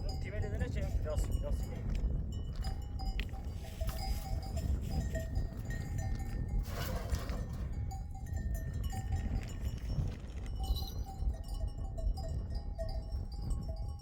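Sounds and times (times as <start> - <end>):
livestock bells clinking: 0.0 - 14.0.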